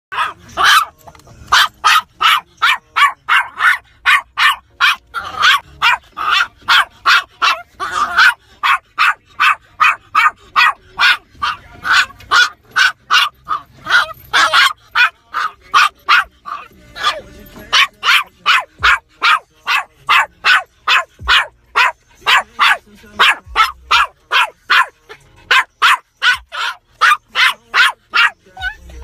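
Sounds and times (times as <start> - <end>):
small dog barking: 0.1 - 0.9, 1.5 - 28.8.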